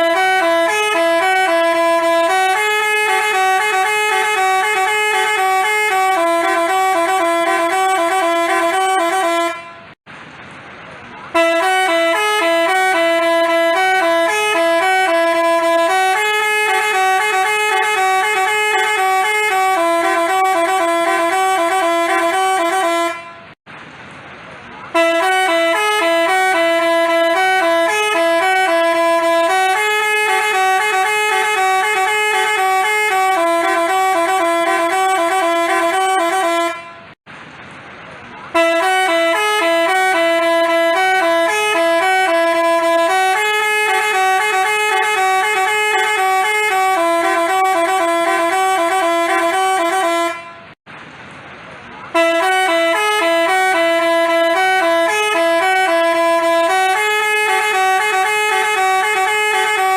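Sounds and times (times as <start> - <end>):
bus horn playing a tune: 0.0 - 10.0, 11.3 - 23.6, 24.9 - 37.2, 38.5 - 50.8, 52.1 - 59.9.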